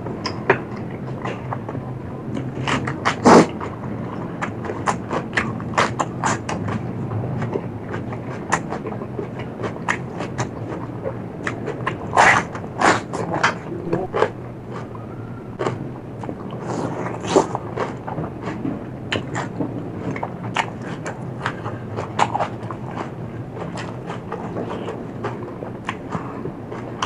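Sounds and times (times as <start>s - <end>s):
chewing and crunching food: 0.0s - 27.0s.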